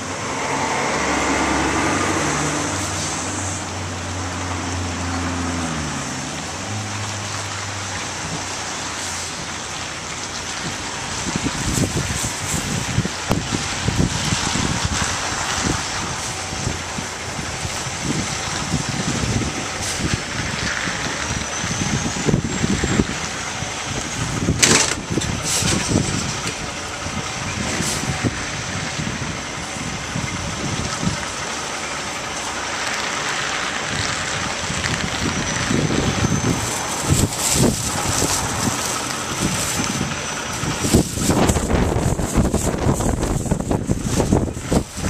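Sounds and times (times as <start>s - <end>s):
truck engine running: 0.0s - 45.0s
wind buffeting microphone: 6.9s - 31.6s, 33.4s - 45.0s.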